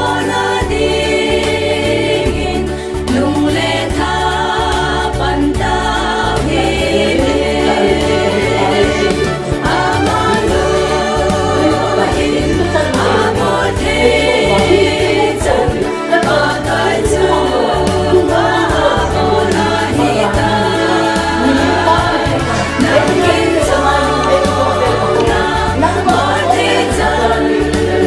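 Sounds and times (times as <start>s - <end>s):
bass notes: 0.0s - 28.0s
gospel choir singing: 0.0s - 28.0s
regular beat: 3.4s - 28.0s.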